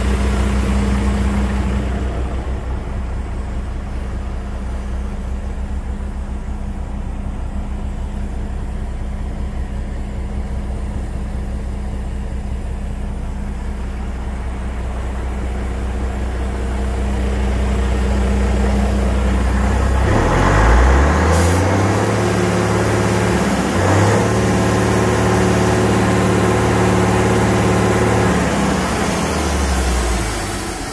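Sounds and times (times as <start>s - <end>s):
truck diesel engine idling and revving: 0.0s - 30.9s.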